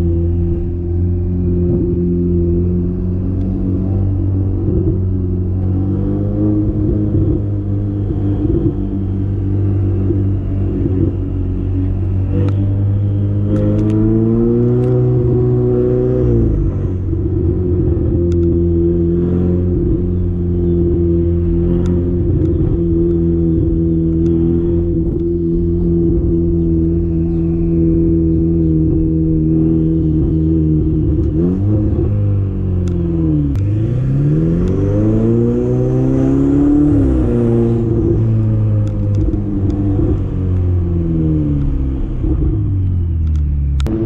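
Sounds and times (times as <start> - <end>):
sports car engine droning: 0.0 - 44.0.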